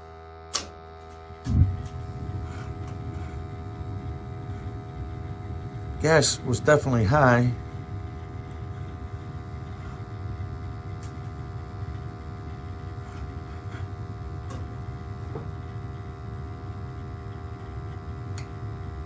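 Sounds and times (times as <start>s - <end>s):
gas burners rumbling: 0.0s - 19.0s
steady hum: 0.0s - 19.0s.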